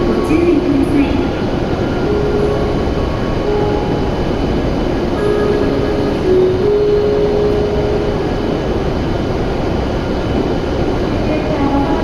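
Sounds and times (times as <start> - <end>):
high-speed train rumbling: 0.0 - 12.0.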